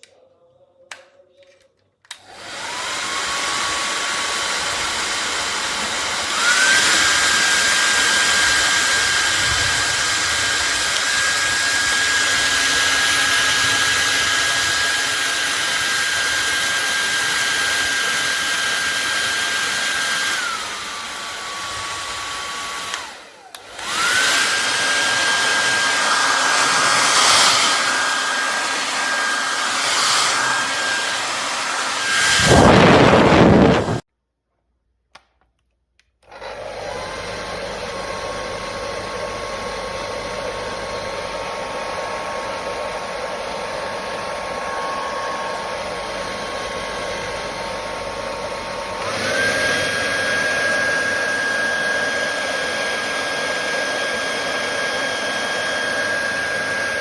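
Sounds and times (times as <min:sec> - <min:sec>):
hair dryer running: 0:02.1 - 0:34.1, 0:36.2 - 0:57.0.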